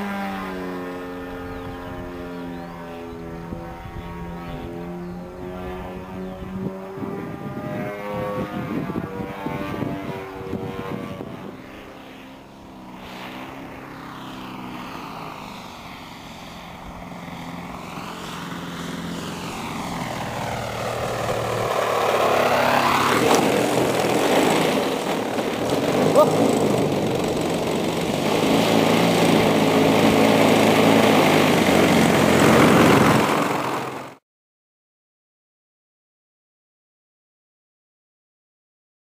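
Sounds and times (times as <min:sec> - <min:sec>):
model plane engine droning: 0:00.0 - 0:34.2.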